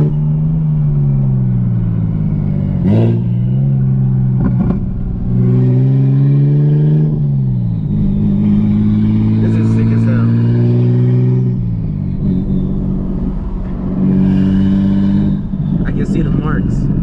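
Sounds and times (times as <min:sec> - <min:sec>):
car engine pulling hard: 0:00.0 - 0:17.0.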